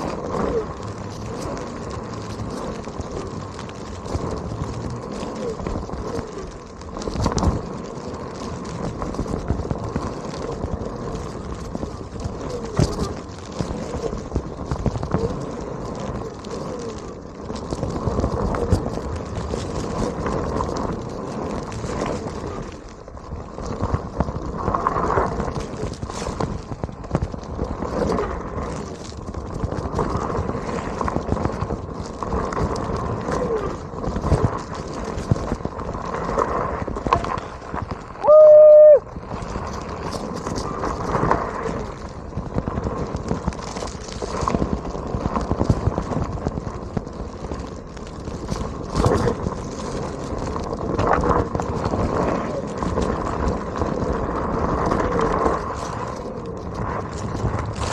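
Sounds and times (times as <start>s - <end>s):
tyre crunching over gravel: 0.0s - 57.9s.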